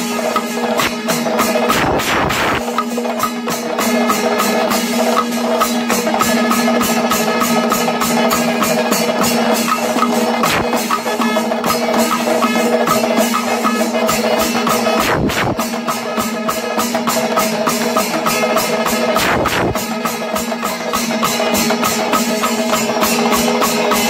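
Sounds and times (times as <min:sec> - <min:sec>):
cymbals: 0:00.0 - 0:24.0
drums beating fast rhythm: 0:00.0 - 0:24.0
steady held tone: 0:00.0 - 0:24.0.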